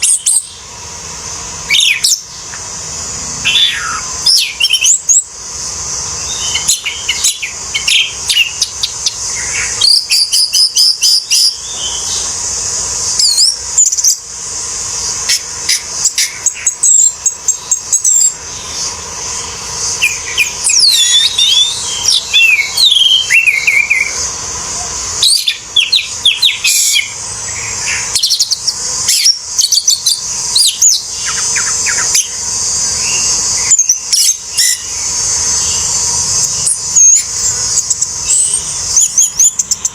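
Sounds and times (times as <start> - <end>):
steady high-pitched hiss: 0.0 - 39.9
thrush singing: 0.0 - 39.9.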